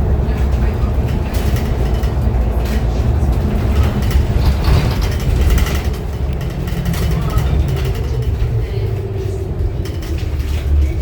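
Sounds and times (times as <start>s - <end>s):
bus body rattles: 0.0s - 11.0s
bus engine and road rumble: 0.0s - 11.0s.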